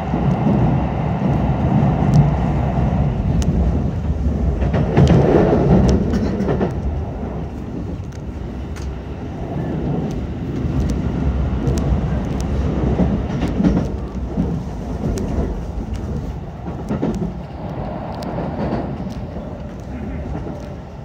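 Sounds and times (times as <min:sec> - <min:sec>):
train wheels rumbling on track: 0:00.0 - 0:21.0
sharp clicks of wheels: 0:01.3 - 0:21.0.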